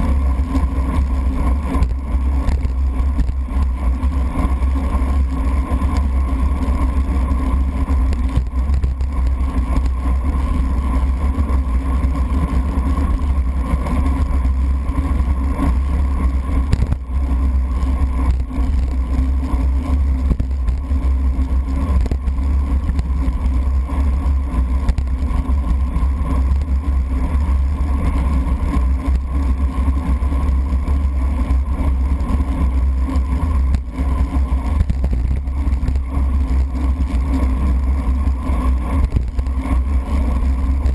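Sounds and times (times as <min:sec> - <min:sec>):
wind and road rumble: 0:00.0 - 0:40.9.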